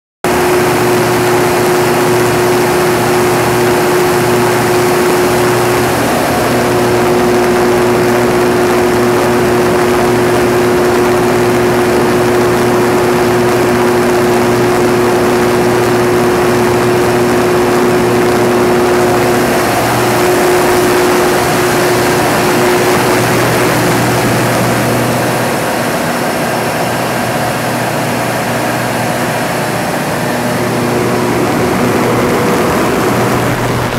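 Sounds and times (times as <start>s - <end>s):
diesel generator droning: 0.2s - 33.9s
high whine: 0.2s - 33.9s.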